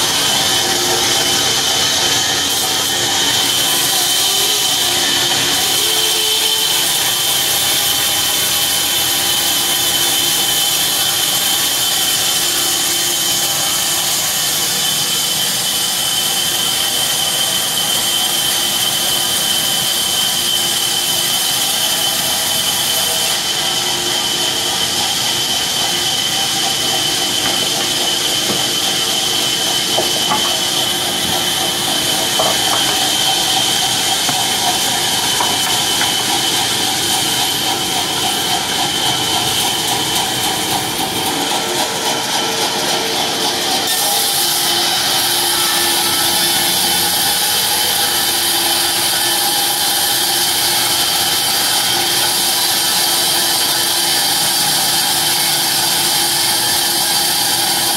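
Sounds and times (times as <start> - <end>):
band saw cutting wood: 0.0 - 57.9.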